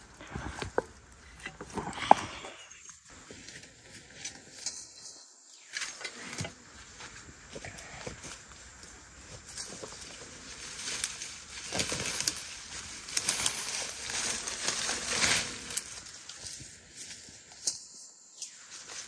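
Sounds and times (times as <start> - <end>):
leaves and stems rustling: 0.0 - 19.0.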